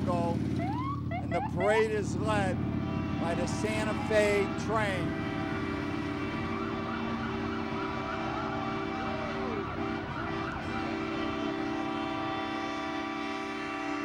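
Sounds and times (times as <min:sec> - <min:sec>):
police sirens wailing: 0:00.0 - 0:14.0
steady droning tone: 0:01.3 - 0:14.0.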